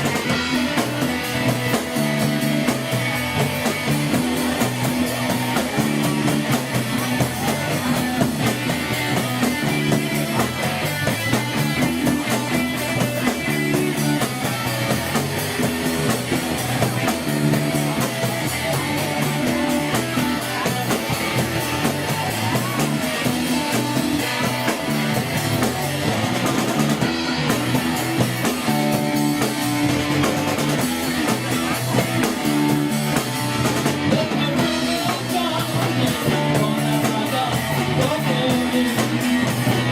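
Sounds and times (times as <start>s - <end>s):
bass: 0.0s - 39.9s
drum kit: 0.0s - 39.9s
electric guitar: 0.0s - 39.9s.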